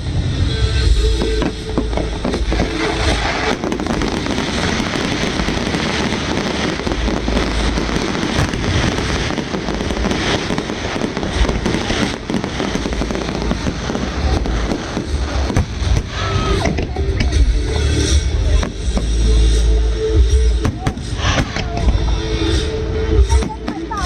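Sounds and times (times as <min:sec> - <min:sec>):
fireworks bursting and crackling: 0:00.0 - 0:24.0
deep fireworks booms: 0:00.6 - 0:24.0.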